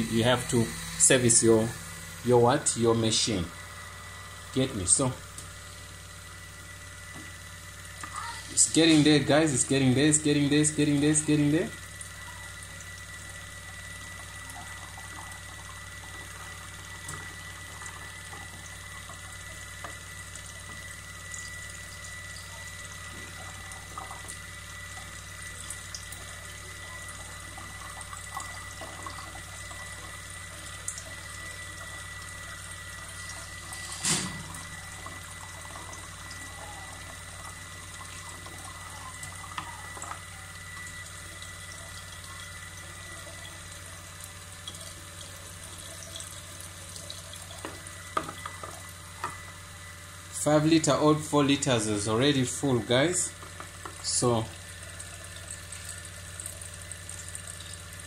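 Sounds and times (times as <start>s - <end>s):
water drips and trickles: 2.2s - 51.0s, 51.6s - 58.0s
water running into plastic bottle: 7.1s - 50.2s, 52.0s - 58.0s.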